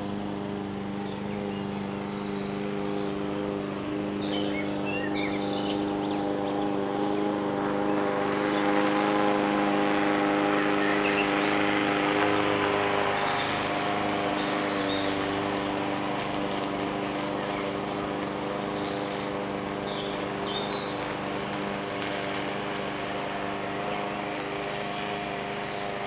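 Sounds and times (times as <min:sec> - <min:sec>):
birds chirping: 0:00.0 - 0:26.0
lawn mower engine running: 0:00.0 - 0:26.0.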